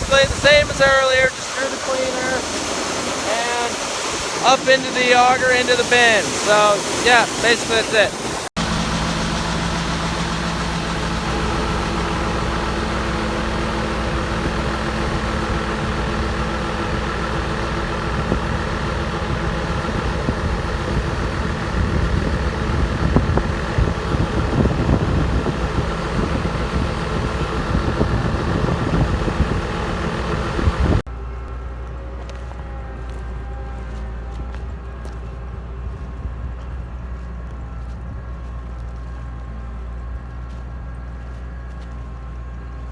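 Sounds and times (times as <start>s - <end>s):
farm machinery engine humming: 0.0s - 42.9s.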